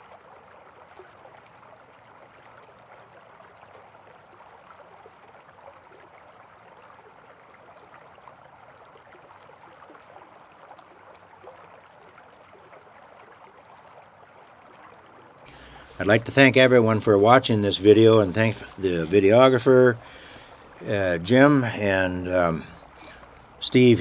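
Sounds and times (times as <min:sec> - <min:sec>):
running water: 0:00.0 - 0:24.0.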